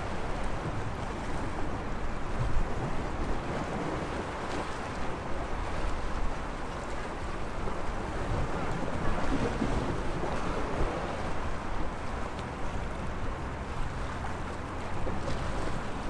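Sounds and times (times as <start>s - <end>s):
sea waves washing on shore: 0.0s - 16.0s
wind rumble on microphone: 0.0s - 16.0s.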